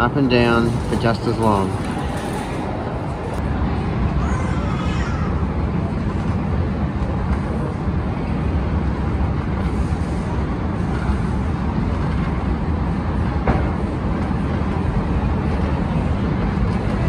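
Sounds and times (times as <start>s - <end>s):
moving walkway low rumble: 0.0s - 17.0s.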